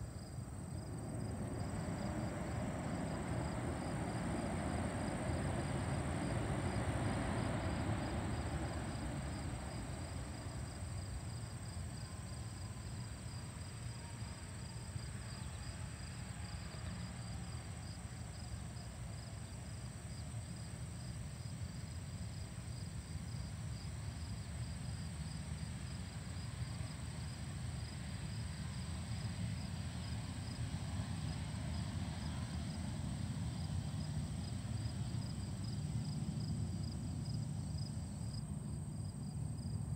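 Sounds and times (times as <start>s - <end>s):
distant jet engine rumble: 0.0s - 39.9s
insects chirping: 0.0s - 39.9s.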